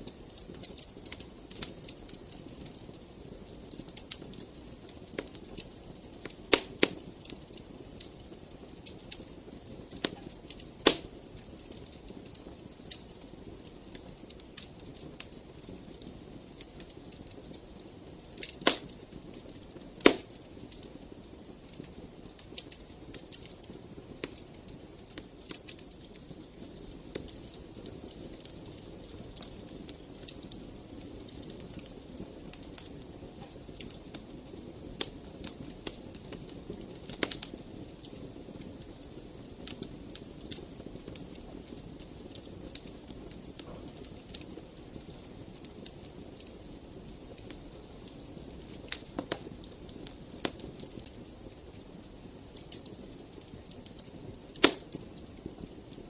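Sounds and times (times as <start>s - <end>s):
low flame rumble: 0.0s - 56.0s
wood fire popping and snapping: 0.0s - 56.0s.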